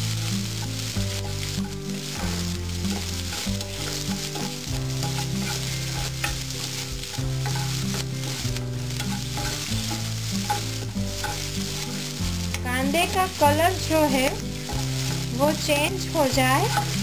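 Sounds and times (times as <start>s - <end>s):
onions sizzling in oil: 0.0s - 17.0s
steel spoon scraping a pan: 0.5s - 17.0s.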